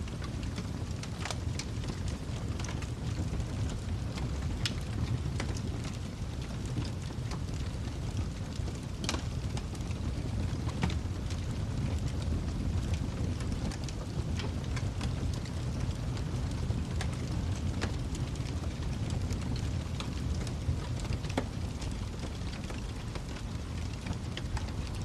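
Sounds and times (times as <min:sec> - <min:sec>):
wood fire rumbling: 0:00.0 - 0:25.0
fire pops and snaps: 0:00.1 - 0:25.0.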